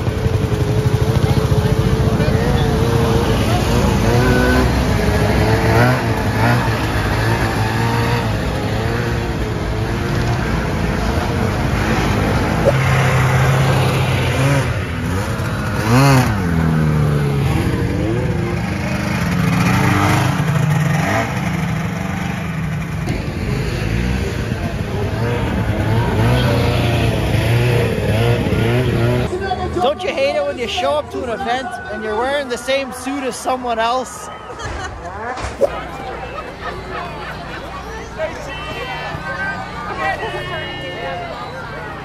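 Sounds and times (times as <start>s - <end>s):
snowmobile engines revving: 0.0s - 42.0s.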